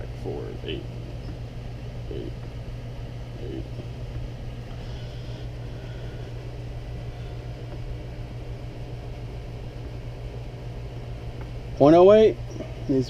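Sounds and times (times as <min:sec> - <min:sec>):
low background hum with hiss: 0:00.0 - 0:13.0.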